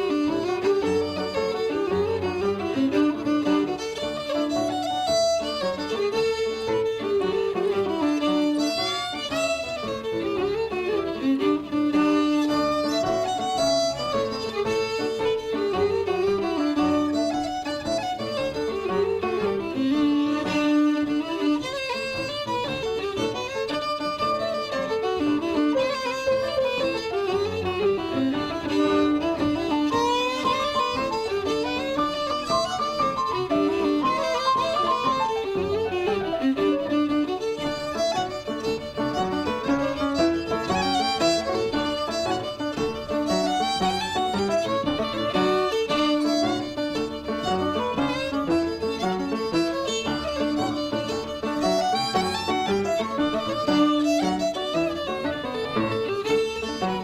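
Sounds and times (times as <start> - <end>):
fiddle playing a melody: 0.0 - 57.0
musical accompaniment: 0.0 - 57.0.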